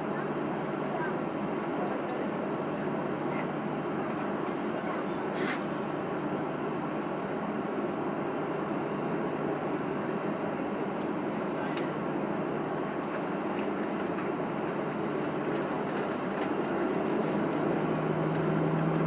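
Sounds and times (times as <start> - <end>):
jet engine cabin noise: 0.0 - 19.0.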